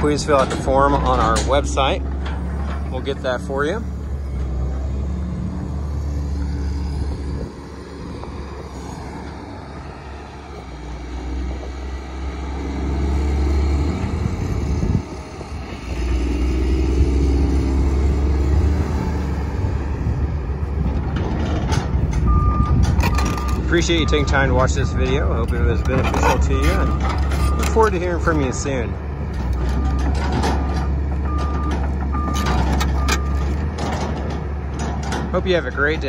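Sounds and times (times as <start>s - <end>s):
diesel excavator engine rumbling: 0.0s - 36.0s.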